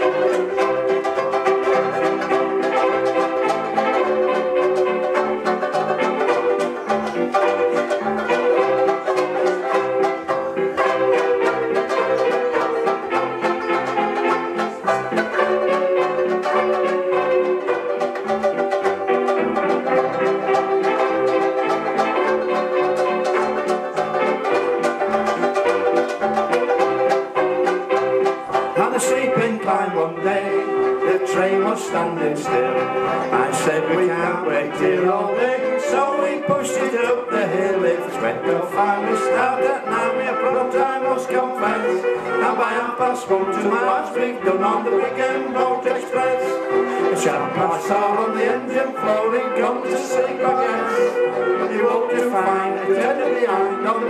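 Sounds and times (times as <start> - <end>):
backing accompaniment: 0.0 - 54.0
banjo ukuleles strumming: 0.0 - 54.0.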